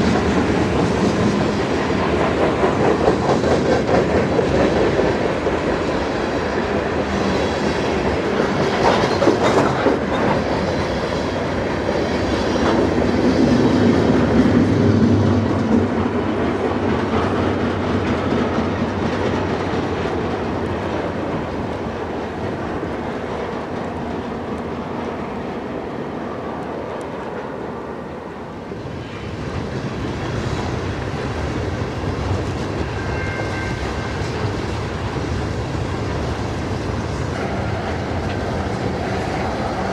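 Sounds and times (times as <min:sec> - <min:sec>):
freight train wheels clacking: 0:00.0 - 0:27.6, 0:28.8 - 0:39.9.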